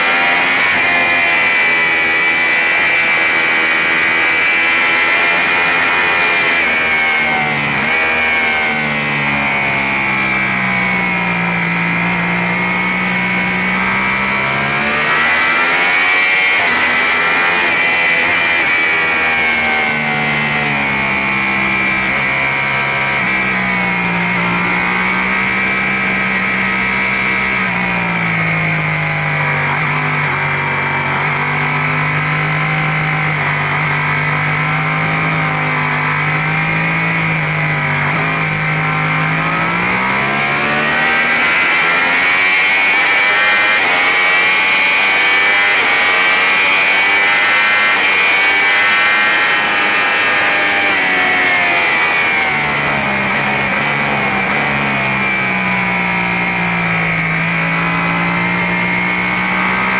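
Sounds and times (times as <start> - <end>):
sport bike engine revving: 0.0 - 59.9.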